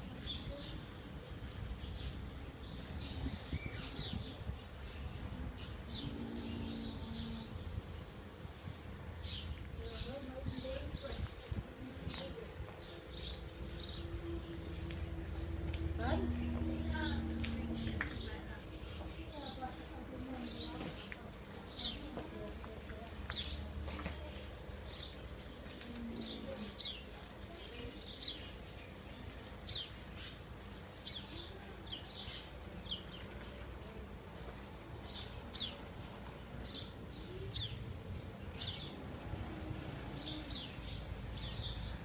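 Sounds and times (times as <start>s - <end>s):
small birds chirping: 0.0s - 8.6s, 9.2s - 42.0s.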